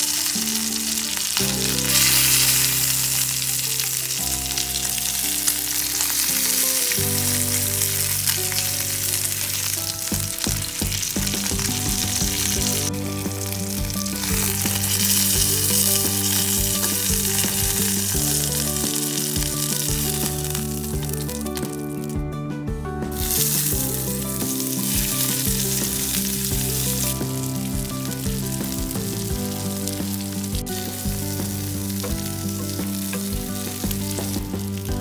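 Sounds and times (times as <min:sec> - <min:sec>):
chicken sizzling in hot oil: 0:00.0 - 0:22.0, 0:23.1 - 0:35.0.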